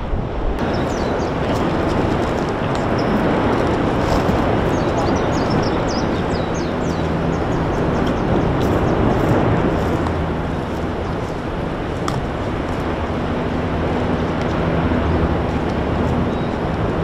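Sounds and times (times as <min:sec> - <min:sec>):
lava vent roaring: 0:00.0 - 0:17.0.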